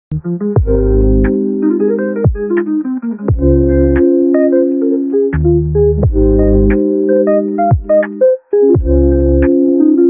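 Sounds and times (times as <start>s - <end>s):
electronic background music: 0.1s - 10.0s.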